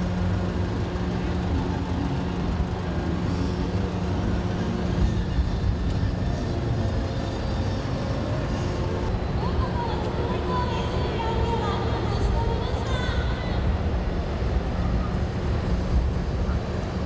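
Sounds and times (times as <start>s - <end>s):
constant hum: 0.0s - 17.0s
low engine rumble: 0.0s - 17.0s.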